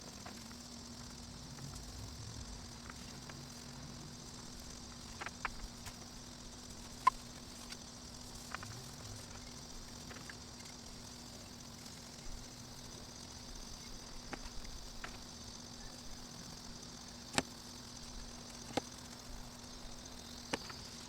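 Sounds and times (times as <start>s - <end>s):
faint background hum: 0.0s - 21.0s
high hiss: 0.0s - 21.0s.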